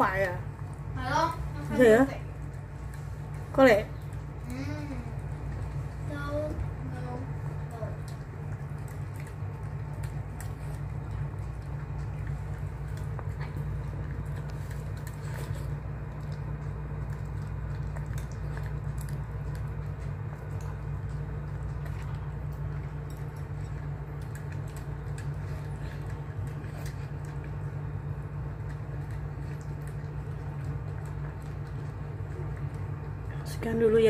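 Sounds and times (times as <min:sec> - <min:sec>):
dog chewing and lapping: 0:00.0 - 0:34.0
steady low hum: 0:00.0 - 0:34.0.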